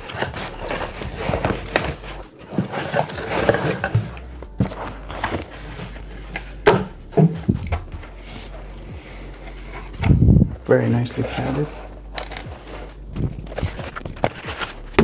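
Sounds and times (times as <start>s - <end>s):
foam padding rustling and scraping: 0.0s - 15.0s.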